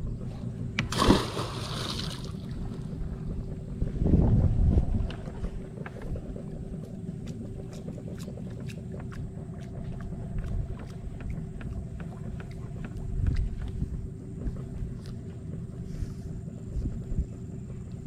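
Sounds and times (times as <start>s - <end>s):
faint steady hum: 0.0s - 18.0s
river water around a boat: 0.0s - 18.0s
wind: 0.0s - 18.0s.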